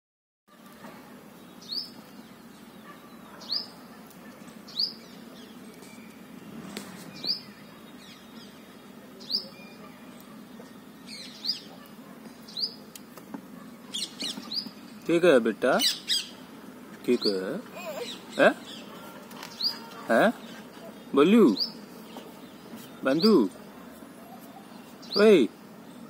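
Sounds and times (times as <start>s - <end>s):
bird chirping: 1.4s - 12.9s, 13.5s - 26.0s.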